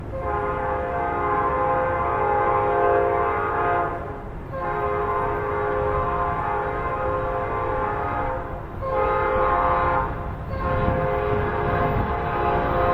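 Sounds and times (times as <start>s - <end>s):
locomotive horn chord: 0.1s - 12.9s.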